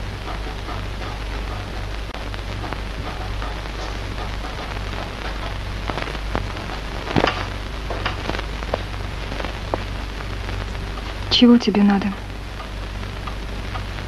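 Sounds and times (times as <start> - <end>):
low hum: 0.0 - 14.0
steady rain: 0.0 - 14.0.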